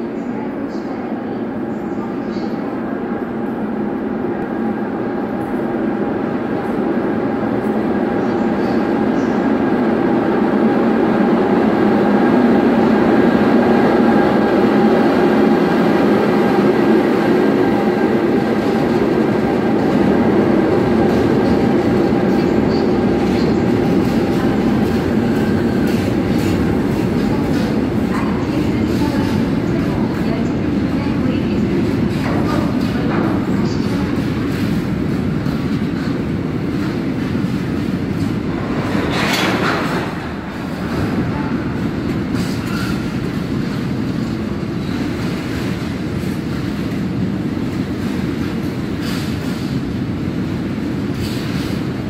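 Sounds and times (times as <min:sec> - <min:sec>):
freight train rumbling past: 0:00.0 - 0:52.0.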